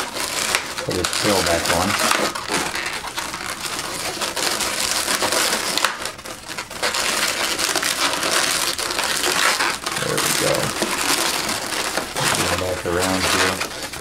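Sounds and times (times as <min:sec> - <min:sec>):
balloons rubbing and squeaking: 0:00.0 - 0:14.0.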